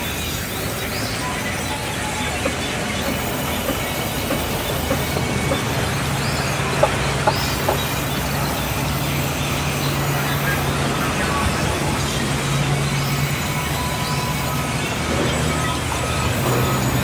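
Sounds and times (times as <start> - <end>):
band saw cutting wood: 0.0 - 17.0.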